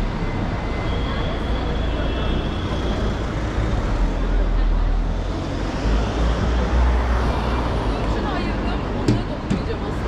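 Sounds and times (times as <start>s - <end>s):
traffic rumbling past: 0.0s - 10.0s
passers-by voices: 0.1s - 10.0s.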